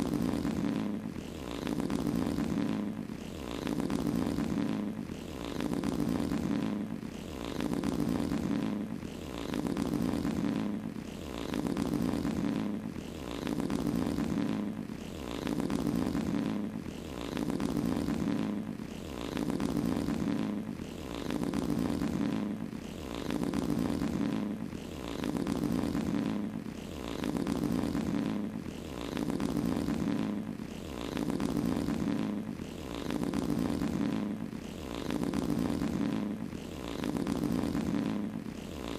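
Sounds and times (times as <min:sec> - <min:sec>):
fart sound effects: 0:00.0 - 0:02.9, 0:03.5 - 0:10.8, 0:11.4 - 0:12.8, 0:13.4 - 0:14.7, 0:15.4 - 0:26.5, 0:27.1 - 0:38.9.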